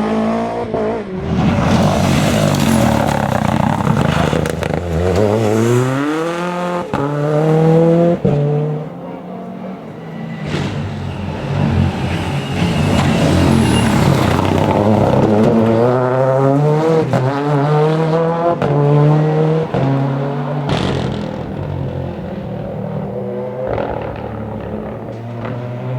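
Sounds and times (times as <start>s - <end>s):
car engine revving through gears: 0.0s - 25.9s.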